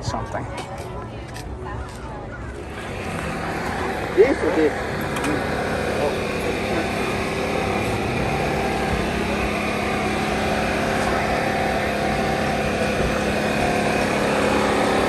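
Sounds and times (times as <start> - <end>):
engine-like drone: 0.0 - 15.0.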